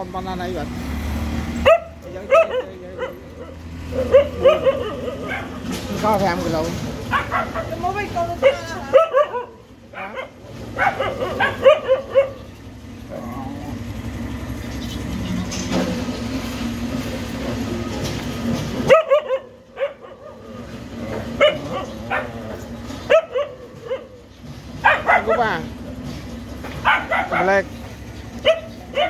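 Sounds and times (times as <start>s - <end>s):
low mechanical hum: 3.2s - 29.0s.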